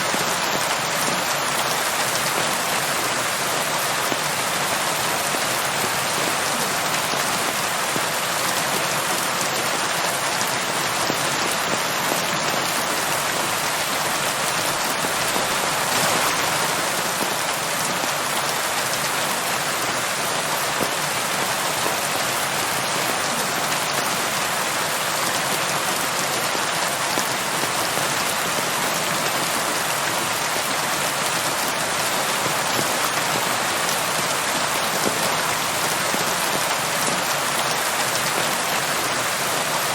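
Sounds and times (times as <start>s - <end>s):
steady rain on surface: 0.0s - 39.9s.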